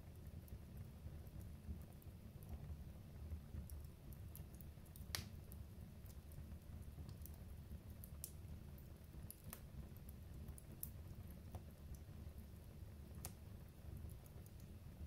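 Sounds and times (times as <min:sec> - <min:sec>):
fire crackling and popping: 0:00.0 - 0:15.0
wood fire burning: 0:00.0 - 0:15.0.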